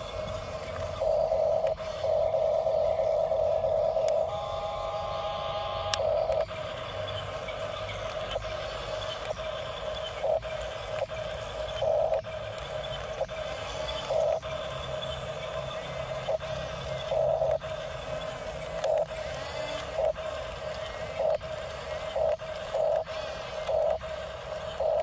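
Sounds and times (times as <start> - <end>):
higher whine: 0.0 - 24.1
electric motors whining: 0.0 - 25.0.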